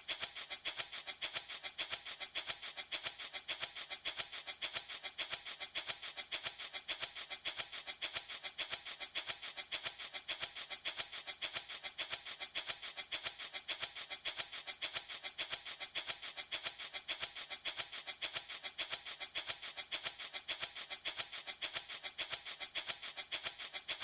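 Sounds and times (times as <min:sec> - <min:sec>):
baby rattle shaking: 0:00.0 - 0:24.0.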